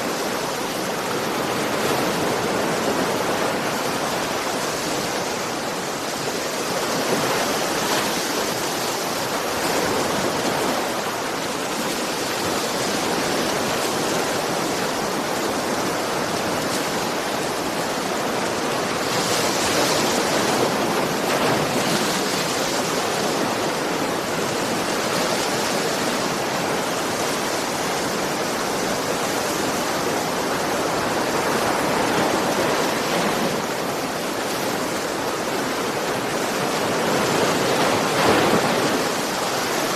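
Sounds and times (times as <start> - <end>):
waves breaking and washing: 0.0 - 39.9.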